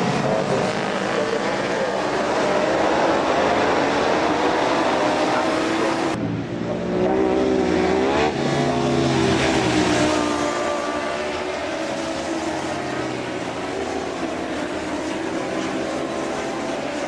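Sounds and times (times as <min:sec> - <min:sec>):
racing motorcycles at high revs: 0:00.0 - 0:17.0.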